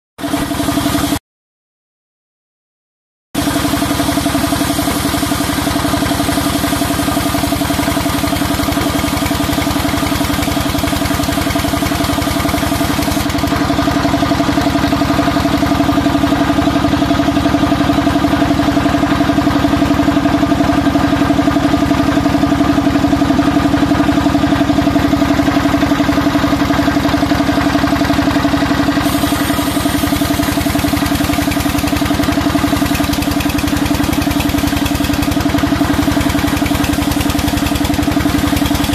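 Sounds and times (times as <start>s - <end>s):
sawmill saw humming: 0.2s - 1.2s, 3.4s - 38.9s.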